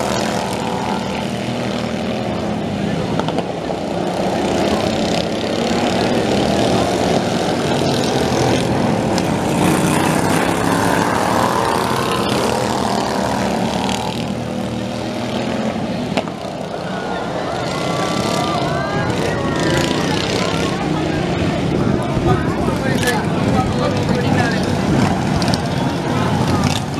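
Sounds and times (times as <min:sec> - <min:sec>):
racing lawn mower engines: 0:00.0 - 0:26.9.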